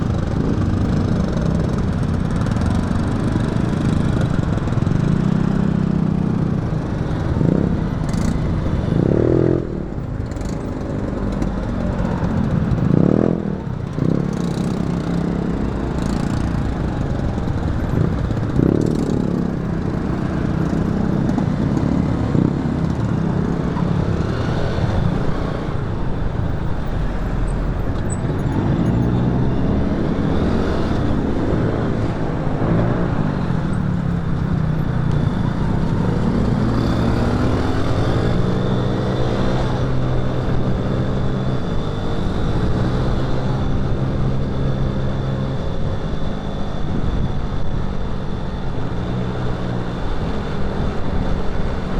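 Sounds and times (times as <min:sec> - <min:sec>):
motorcycle engine hum: 0:00.0 - 0:51.9
road traffic noise: 0:00.0 - 0:51.9.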